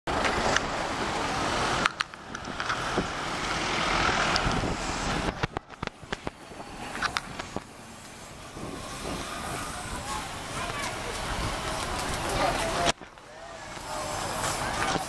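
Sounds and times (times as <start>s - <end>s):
vehicle passing by: 0.1s - 15.0s.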